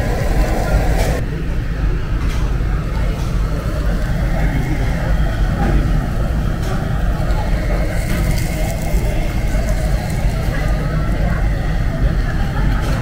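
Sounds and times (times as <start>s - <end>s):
faint background voices: 0.0s - 13.0s
low room rumble: 0.0s - 13.0s.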